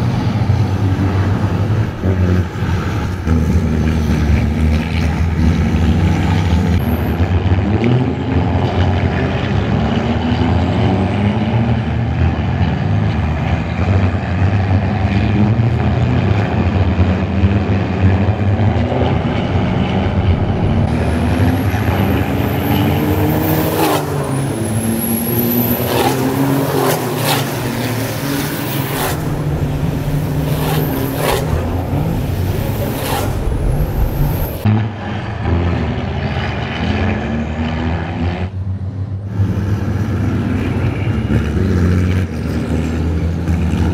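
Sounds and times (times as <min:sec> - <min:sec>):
truck engines racing past: 0:00.0 - 0:43.9.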